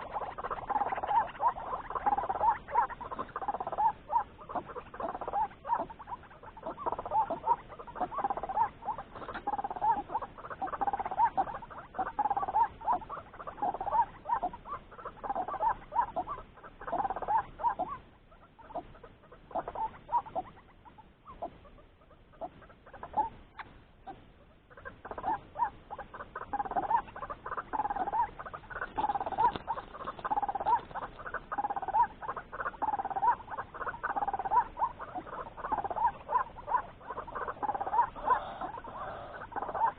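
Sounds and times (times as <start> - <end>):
waterhen croaking calls: 0.0 - 39.9.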